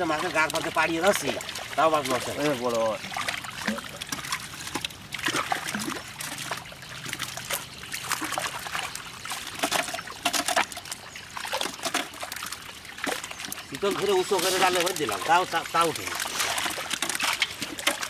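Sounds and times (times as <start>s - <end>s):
pond water splashing and trickling: 0.0s - 18.0s.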